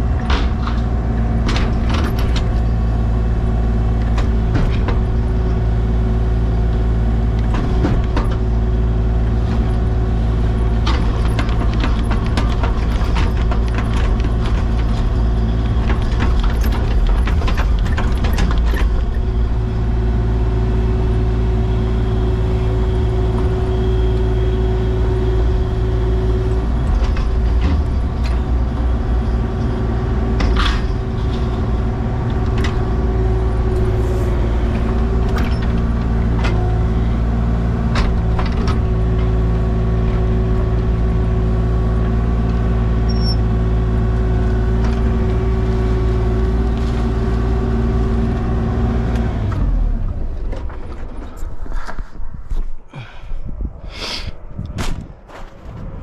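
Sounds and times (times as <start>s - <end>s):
excavator engine running: 0.0s - 53.8s.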